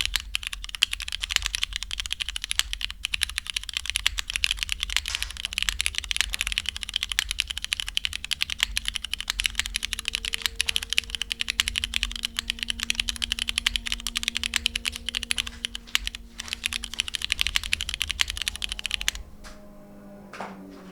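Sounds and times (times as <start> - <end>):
mechanical keyboard key clacks: 0.0 - 19.2.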